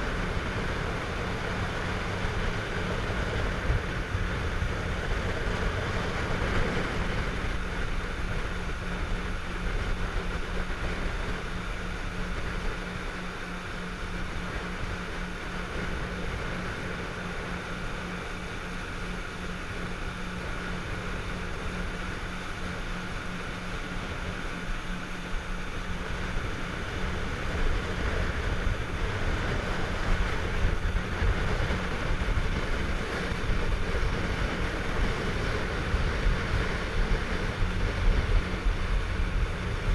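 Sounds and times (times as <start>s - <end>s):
motorboat engine droning: 0.0s - 39.9s
wind and water rushing: 0.0s - 39.9s.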